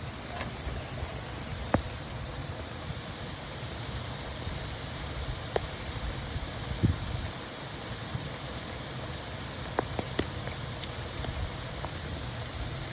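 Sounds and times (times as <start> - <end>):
steady rain patter: 0.0 - 12.9.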